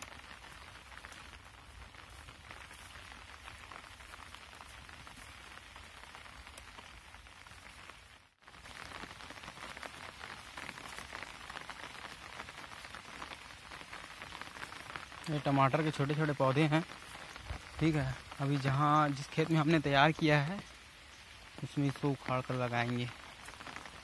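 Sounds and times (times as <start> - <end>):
light rain pattering: 0.0 - 24.0.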